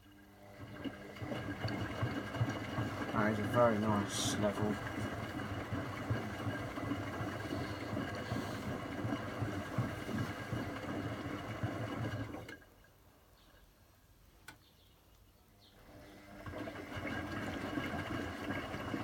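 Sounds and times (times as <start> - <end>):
washing machine hum and rumble: 0.0 - 12.9, 15.8 - 19.0.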